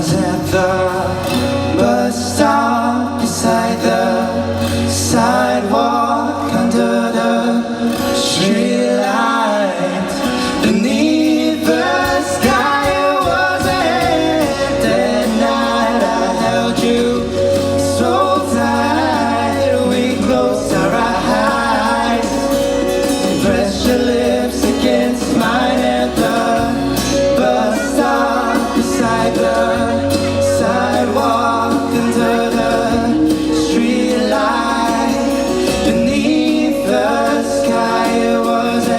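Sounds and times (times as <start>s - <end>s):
person singing: 0.0s - 38.9s
pop-rock band playing: 0.0s - 38.9s.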